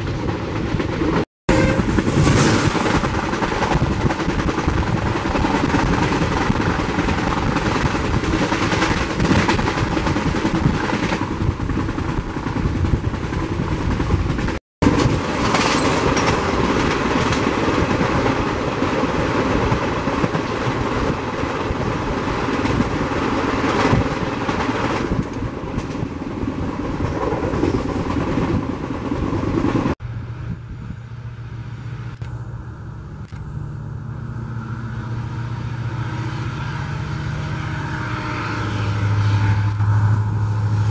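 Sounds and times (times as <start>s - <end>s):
express train passing: 0.0s - 40.9s
train running noise with hum: 0.0s - 40.9s.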